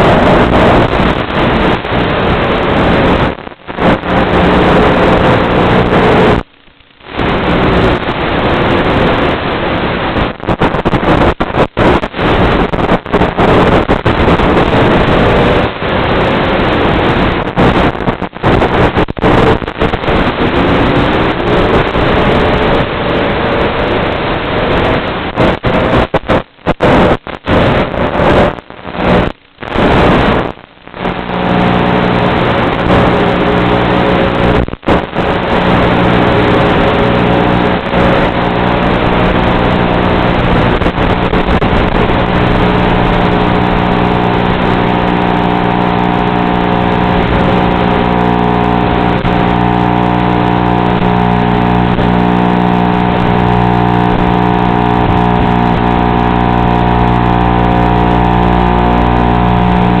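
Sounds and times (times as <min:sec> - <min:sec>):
drone motors and propellers humming: 0:00.0 - 1:00.0.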